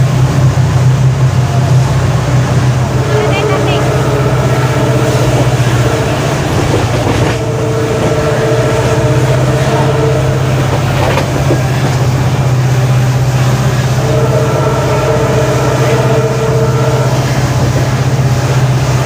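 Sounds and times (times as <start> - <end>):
locomotive engine deep hum: 0.0 - 19.0
train running noise: 0.0 - 19.0
higher steady tones: 1.1 - 19.0.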